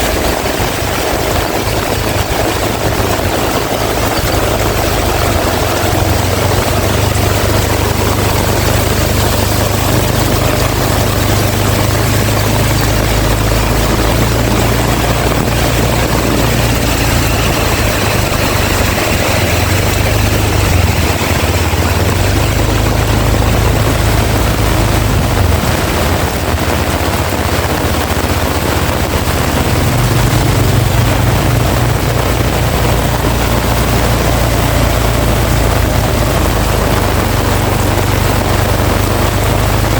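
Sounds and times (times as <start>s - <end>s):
heavy rain pouring: 0.0s - 39.9s
strong wind rumbling: 0.0s - 39.9s.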